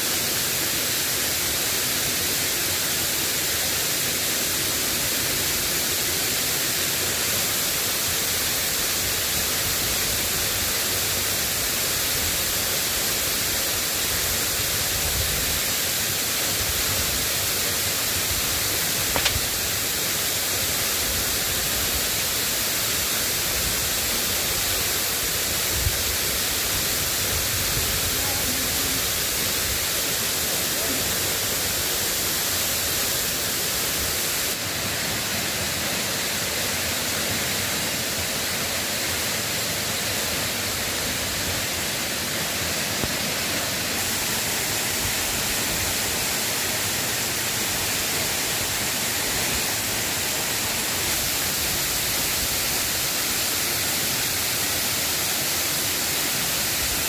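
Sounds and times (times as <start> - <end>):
drizzling rain hiss: 0.0 - 57.0.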